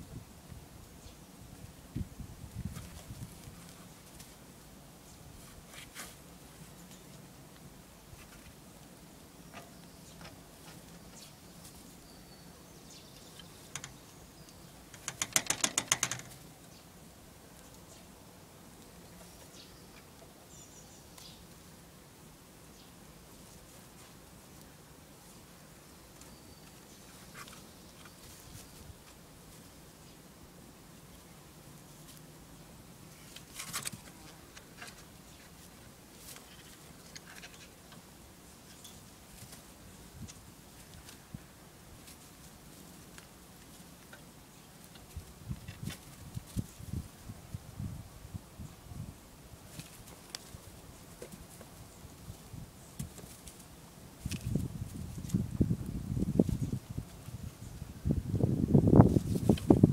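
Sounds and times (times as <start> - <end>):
rustling of hay and shavings: 0.2 - 59.9.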